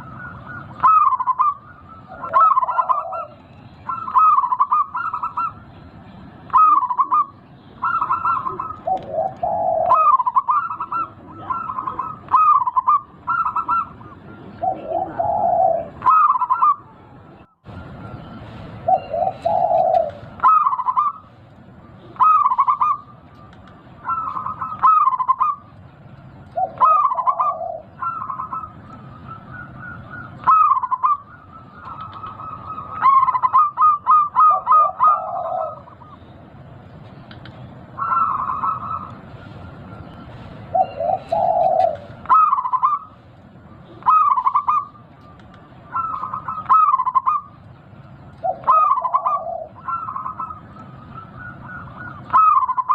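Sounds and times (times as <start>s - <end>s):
dove cooing: 0.0s - 5.7s, 6.5s - 17.0s, 18.0s - 25.8s, 26.4s - 36.5s, 37.2s - 47.7s, 48.3s - 52.9s.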